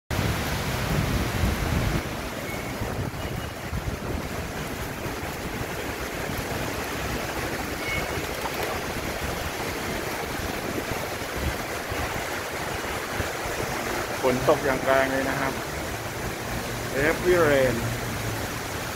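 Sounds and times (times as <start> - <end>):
heavy rain falling: 0.1 - 18.9.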